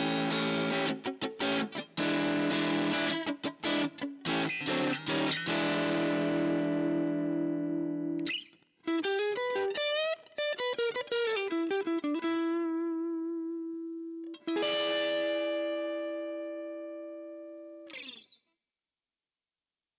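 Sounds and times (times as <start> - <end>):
overdriven electric guitar: 0.0 - 18.4.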